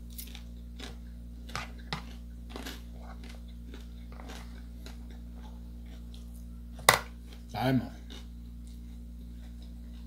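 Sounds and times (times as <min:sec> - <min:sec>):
person chewing: 0:00.0 - 0:10.0
steady low hum: 0:00.0 - 0:10.0.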